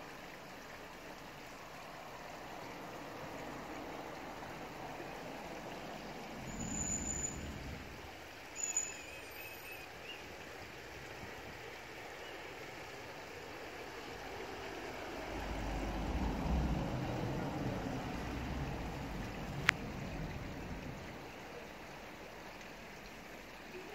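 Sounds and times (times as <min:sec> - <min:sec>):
stream water running: 0:00.0 - 0:23.9.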